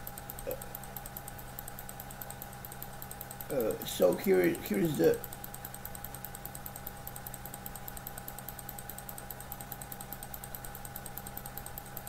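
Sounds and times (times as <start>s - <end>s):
faint high ticking: 0.0s - 12.0s
low electrical hum: 0.0s - 12.0s.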